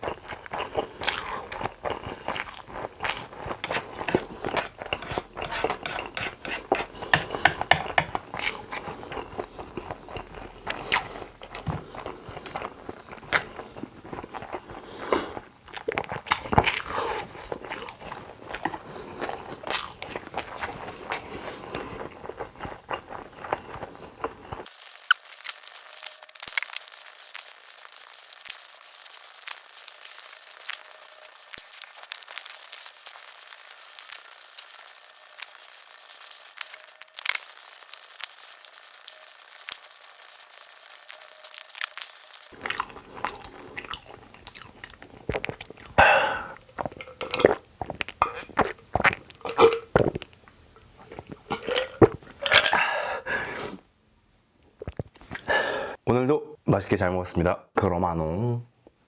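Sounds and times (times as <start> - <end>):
crunching and chewing: 0.0 - 52.8, 54.7 - 55.5.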